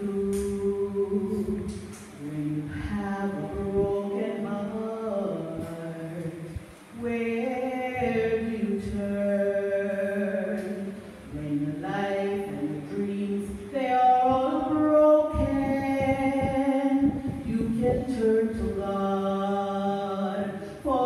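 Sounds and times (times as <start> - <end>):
woman singing slowly: 0.0 - 21.0.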